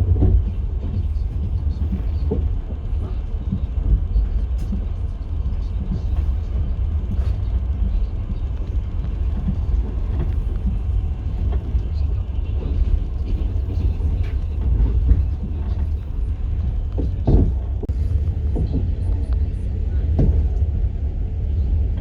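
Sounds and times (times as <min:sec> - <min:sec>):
wheels clicking on rails: 0:00.0 - 0:20.8
train rumble: 0:00.0 - 0:22.0.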